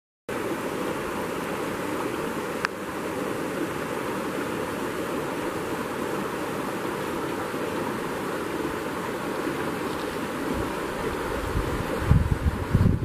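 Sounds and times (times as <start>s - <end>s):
stream running over rocks: 0.3s - 13.0s.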